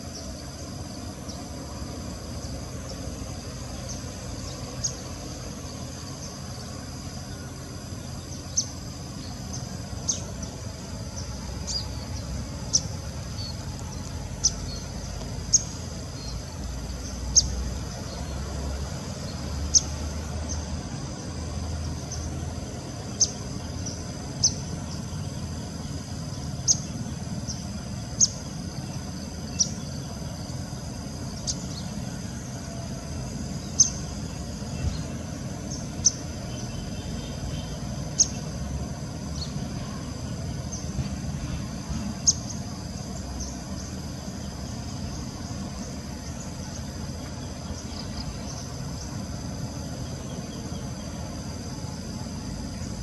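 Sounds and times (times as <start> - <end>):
high insect drone: 0.0 - 53.0
low rumbling background noise: 0.0 - 53.0
bird chirping: 1.2 - 18.5, 19.3 - 20.7, 23.0 - 32.3, 33.6 - 38.6, 42.2 - 51.8.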